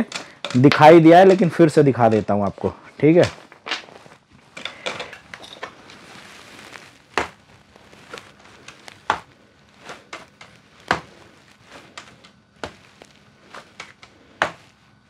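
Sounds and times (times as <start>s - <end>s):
soft rustle: 2.6s - 15.0s.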